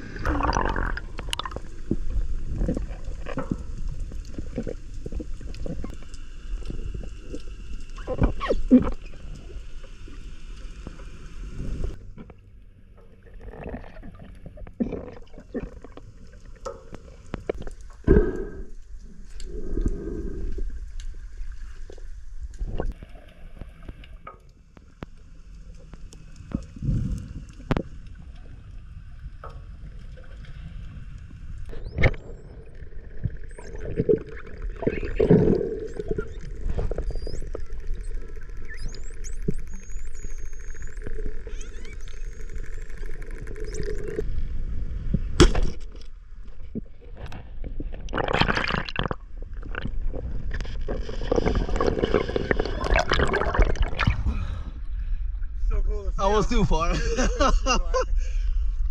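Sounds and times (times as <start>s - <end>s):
muffled underwater water rushing: 0.0s - 56.8s.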